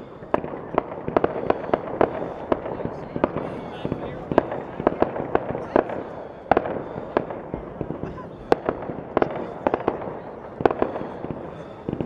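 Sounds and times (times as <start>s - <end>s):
fireworks banging: 0.0s - 12.0s
rumble of fireworks display: 0.0s - 12.0s.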